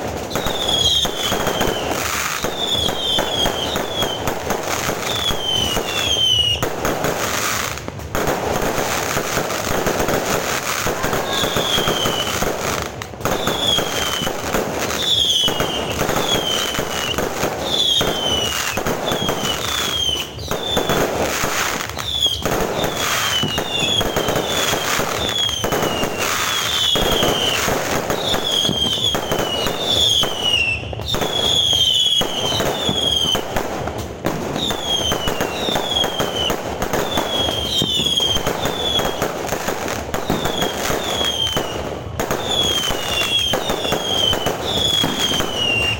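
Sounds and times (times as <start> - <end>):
falling firework whistles: 0.0 - 45.9
fireworks bangs and crackling: 0.0 - 45.9.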